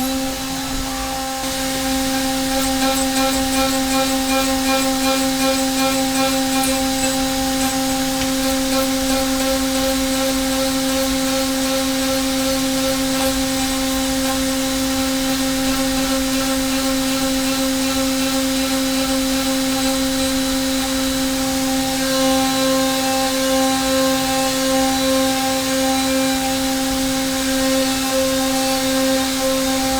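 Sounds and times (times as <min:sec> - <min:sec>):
milling machine cutting tone: 0:00.0 - 0:29.9.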